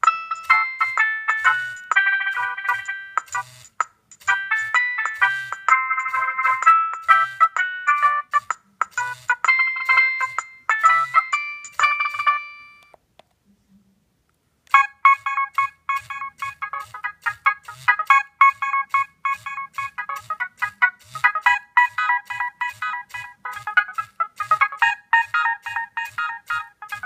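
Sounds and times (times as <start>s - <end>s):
mobile phone ringtone: 0.0s - 13.0s, 14.7s - 27.0s.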